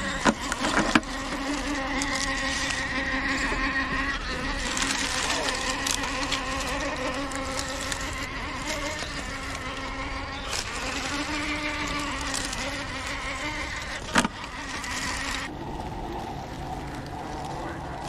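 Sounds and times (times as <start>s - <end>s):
rc car motor whining: 0.0s - 15.5s.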